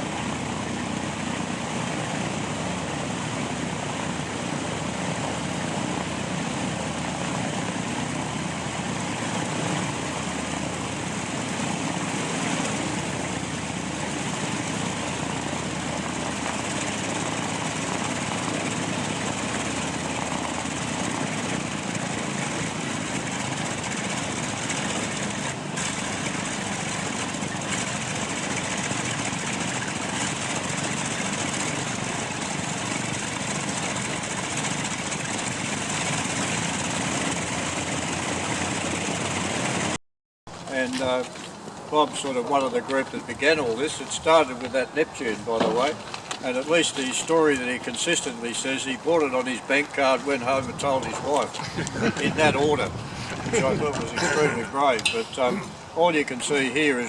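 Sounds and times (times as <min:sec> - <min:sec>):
propeller aircraft engines running: 0:00.0 - 0:57.0.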